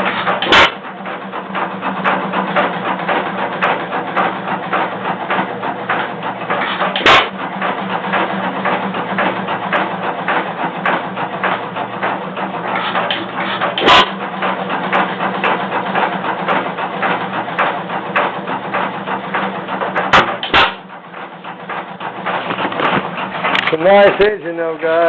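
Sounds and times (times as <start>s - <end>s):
engine firing bangs: 0.0s - 25.0s
engine mechanical clatter: 0.0s - 25.0s.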